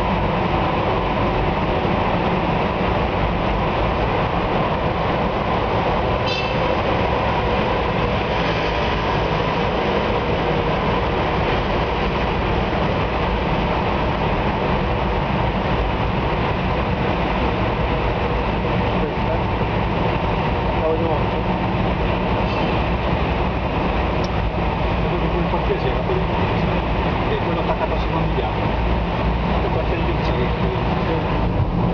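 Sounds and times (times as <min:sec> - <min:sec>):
car road noise in tunnel: 0:00.0 - 0:31.9.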